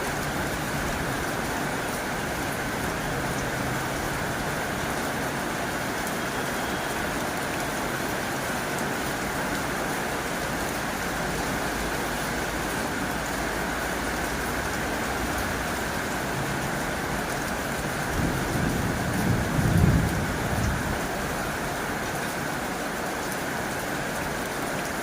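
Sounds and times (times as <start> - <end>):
heavy rain on a tin roof: 0.0 - 25.0.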